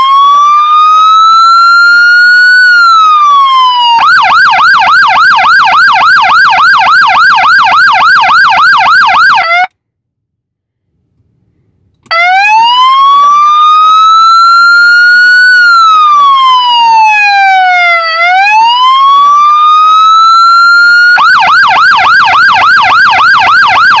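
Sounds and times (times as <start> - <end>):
electronic siren wailing and yelping: 0.0 - 9.7, 12.1 - 24.0.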